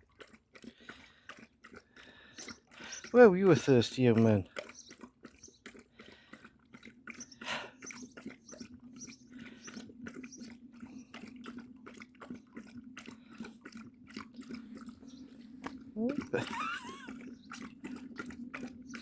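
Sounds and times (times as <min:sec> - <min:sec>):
dog lapping water: 0:00.0 - 0:19.0.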